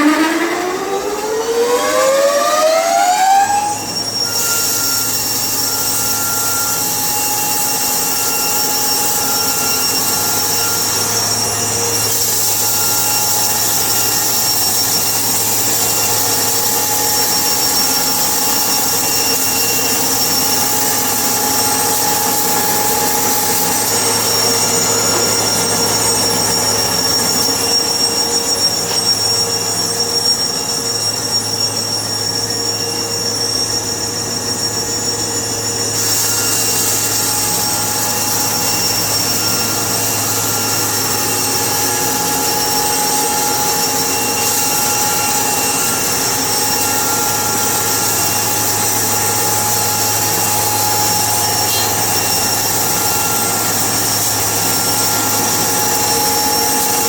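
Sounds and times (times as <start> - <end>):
sawmill saw spinning: 0.0 - 57.0.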